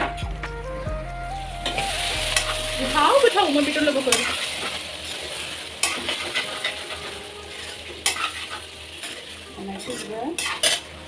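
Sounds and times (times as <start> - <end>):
vegetables sizzling in a pan: 1.6 - 11.0.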